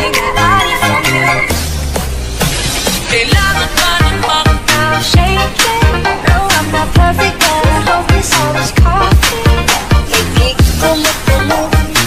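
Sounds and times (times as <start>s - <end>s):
pop music with bass and drums: 0.0s - 12.0s.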